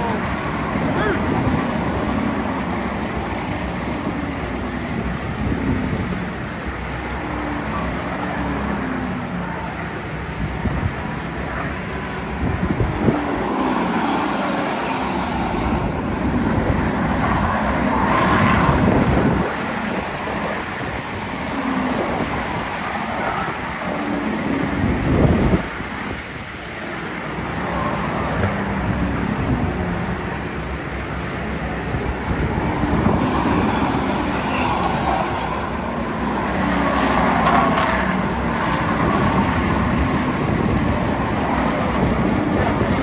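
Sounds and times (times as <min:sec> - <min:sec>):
race car engines droning: 0:00.0 - 0:43.0
wind buffeting microphone: 0:00.0 - 0:43.0.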